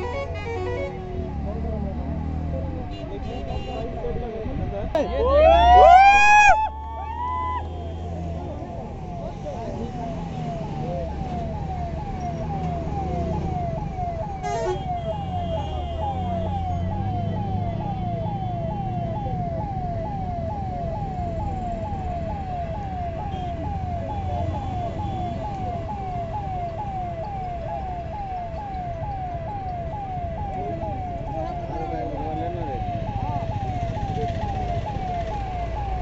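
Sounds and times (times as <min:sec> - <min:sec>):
fire truck siren: 0:00.0 - 0:36.0.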